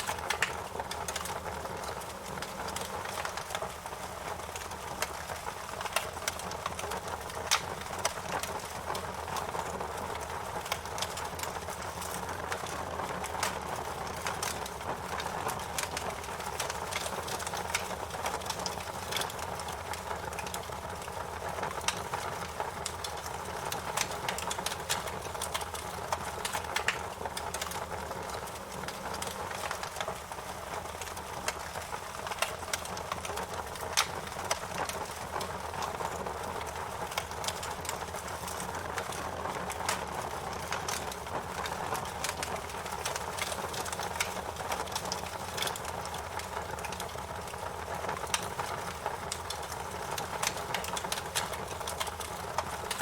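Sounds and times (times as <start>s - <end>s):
wood fire crackling and hissing: 0.0s - 53.0s.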